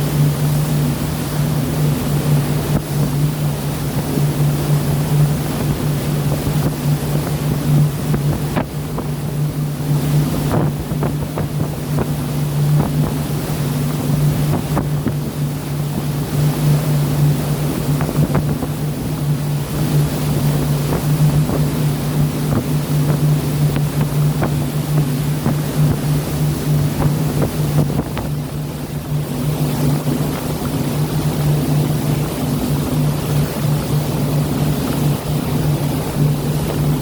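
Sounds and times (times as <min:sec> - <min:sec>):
boat engine droning: 0:00.0 - 0:37.0
wind and sea rushing: 0:00.0 - 0:37.0
wind buffeting microphone: 0:00.0 - 0:37.0.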